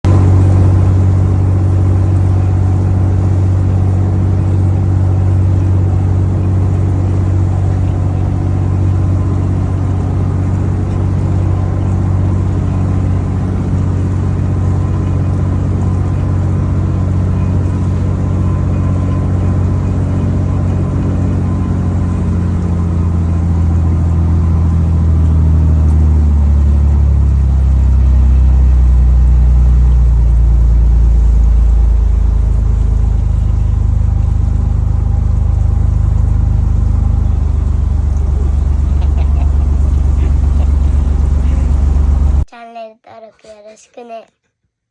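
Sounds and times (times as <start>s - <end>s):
boat engine droning: 0.0s - 42.5s.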